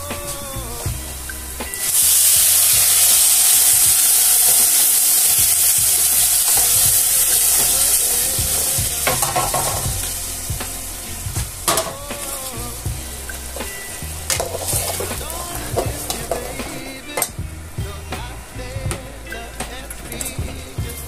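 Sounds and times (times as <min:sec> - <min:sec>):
rice sizzling in a pan: 0:00.0 - 0:17.2.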